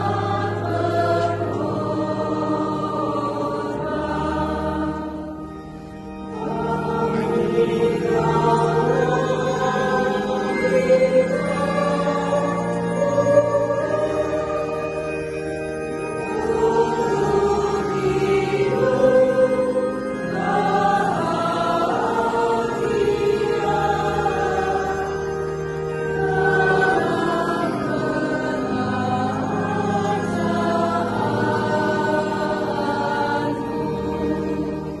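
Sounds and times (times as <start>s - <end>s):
children's choir singing a hymn: 0.0s - 35.0s.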